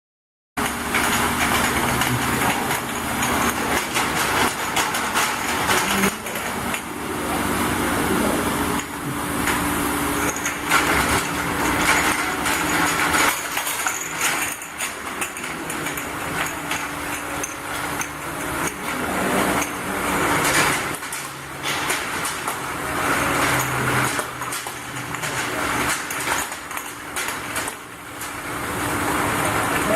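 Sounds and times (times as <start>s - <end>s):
glass bottles clinking: 0.6s - 7.0s, 8.7s - 28.6s
machine hum: 0.6s - 29.9s.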